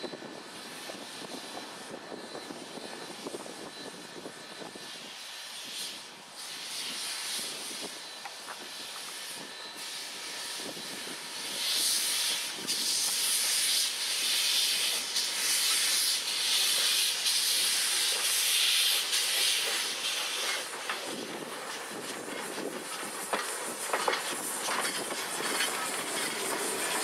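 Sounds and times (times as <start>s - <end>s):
steam locomotive hissing: 0.0s - 27.0s.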